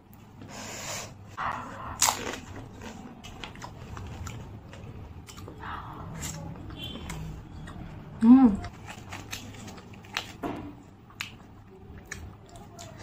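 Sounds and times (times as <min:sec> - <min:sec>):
chewing: 0:01.4 - 0:10.4, 0:11.0 - 0:13.0.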